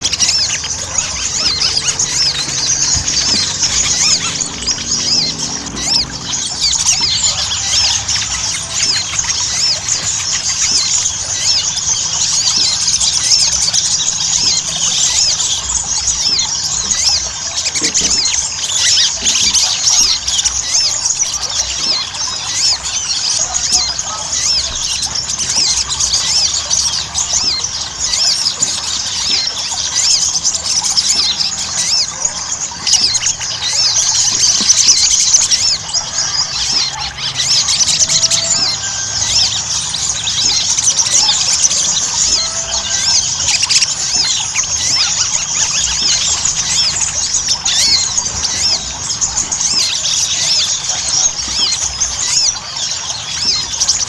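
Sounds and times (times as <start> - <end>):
sunbird singing high chirps: 0.0 - 54.0.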